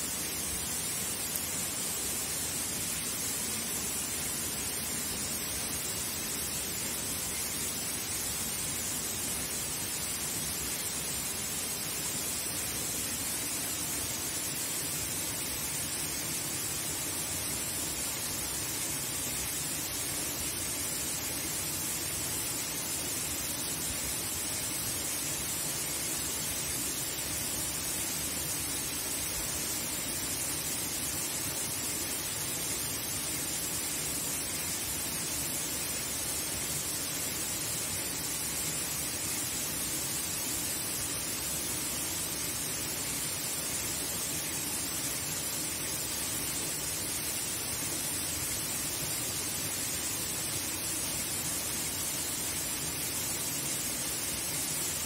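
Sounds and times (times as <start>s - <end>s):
waterfall rushing into a pool: 0.0s - 55.0s.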